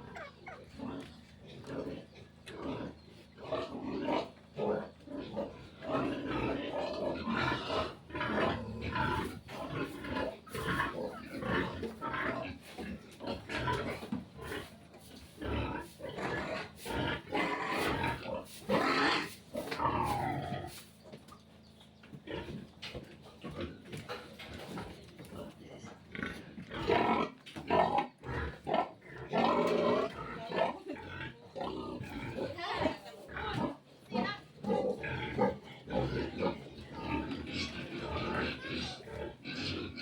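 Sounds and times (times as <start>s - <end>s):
pigs grunting and squealing: 0.0s - 20.8s, 22.2s - 40.0s.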